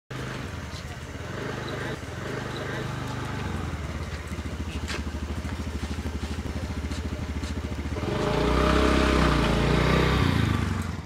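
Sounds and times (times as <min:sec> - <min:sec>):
motorcycle engine approaching: 0:00.1 - 0:11.0.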